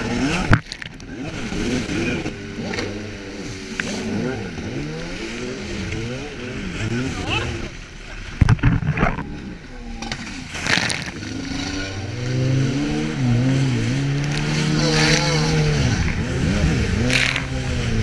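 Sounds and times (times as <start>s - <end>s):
jet ski engine running: 0.0s - 18.0s
water splashes: 0.0s - 18.0s.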